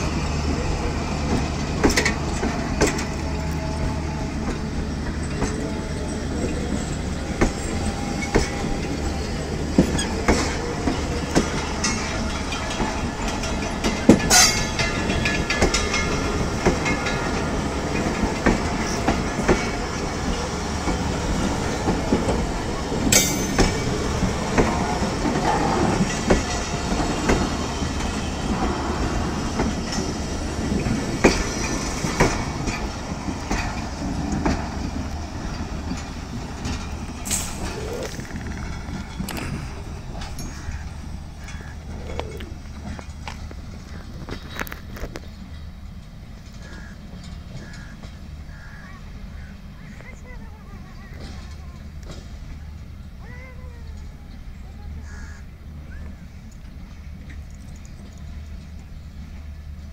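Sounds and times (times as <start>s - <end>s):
train rumbling on track: 0.0s - 59.9s
wheels clicking over rail joints: 0.1s - 59.9s.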